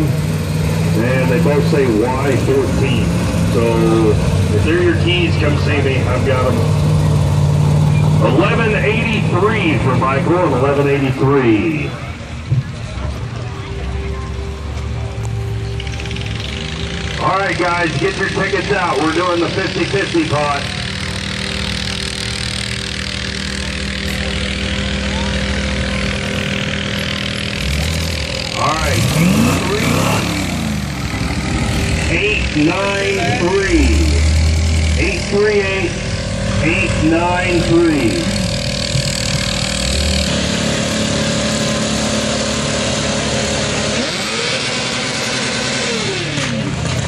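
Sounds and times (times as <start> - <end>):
pickup truck engine running: 0.0 - 47.0.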